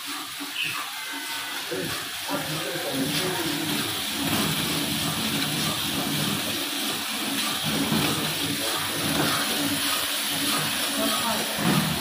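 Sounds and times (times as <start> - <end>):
coffee beans rustling in roaster: 0.0 - 12.0.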